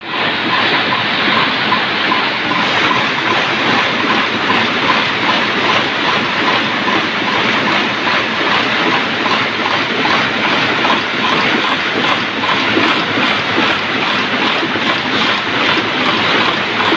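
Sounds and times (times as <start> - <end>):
machine mechanical clatter: 0.0 - 16.9.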